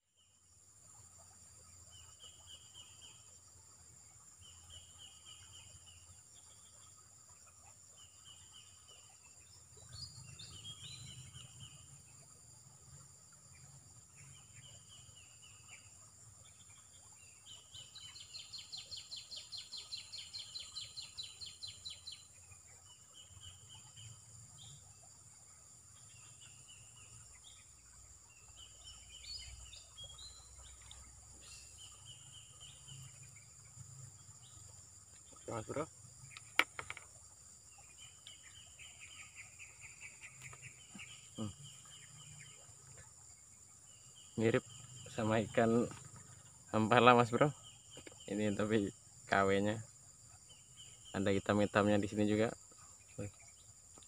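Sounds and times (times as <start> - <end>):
insect whine: 0.0 - 54.0
birds chirping: 7.5 - 54.0.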